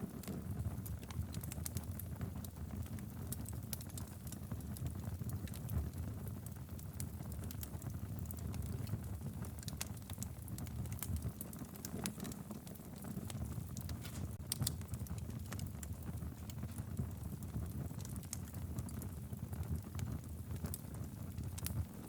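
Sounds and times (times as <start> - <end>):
low rumble of flames: 0.0 - 22.0
wood crackling and popping: 0.0 - 22.0.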